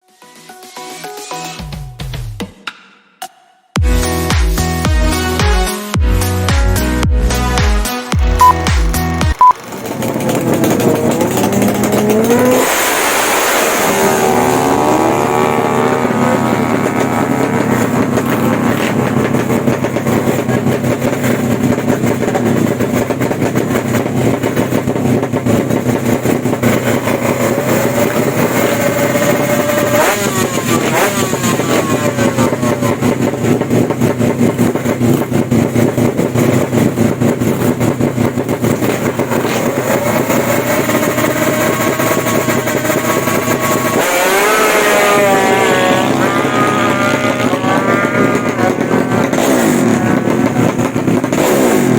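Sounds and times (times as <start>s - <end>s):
motorcycle engines revving: 7.3s - 51.9s.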